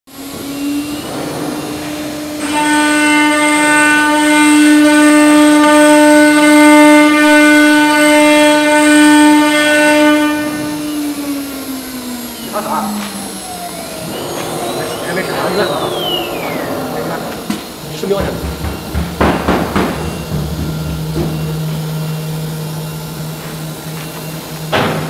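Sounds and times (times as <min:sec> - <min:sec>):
router spindle whining: 0:00.1 - 0:25.0.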